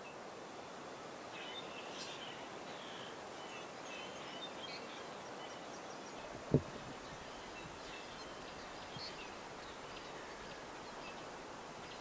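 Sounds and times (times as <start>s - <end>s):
faint outdoor hiss: 0.0s - 12.0s
small birds chirping: 1.3s - 12.0s.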